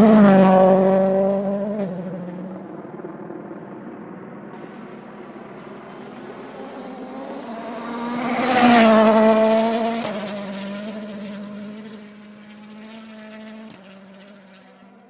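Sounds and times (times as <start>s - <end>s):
rally car engine passing: 0.0s - 15.0s.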